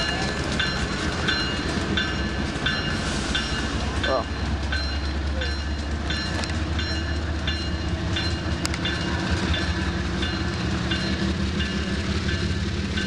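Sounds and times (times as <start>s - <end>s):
train rumbling slowly: 0.0s - 13.0s
wheels clickety-clack: 0.0s - 13.0s.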